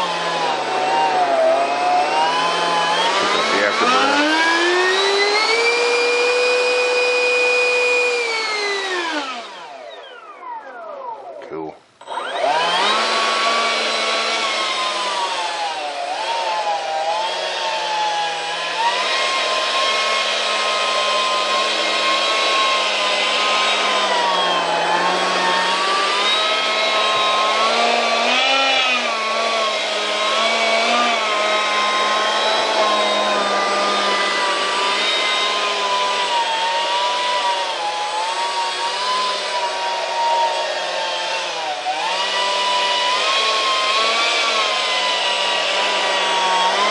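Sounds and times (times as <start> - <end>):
electric ducted fan whining: 0.0 - 46.9.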